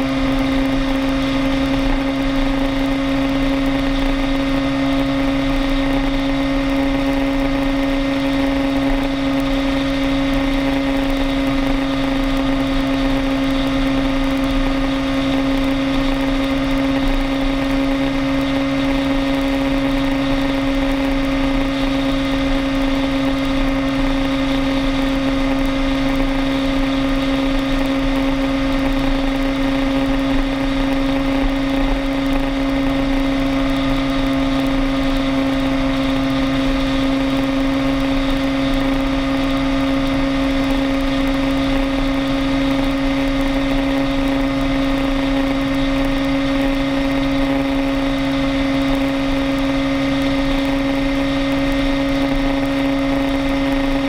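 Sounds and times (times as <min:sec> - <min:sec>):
road and wind noise: 0:00.0 - 0:54.0
vehicle engine humming: 0:00.0 - 0:54.0.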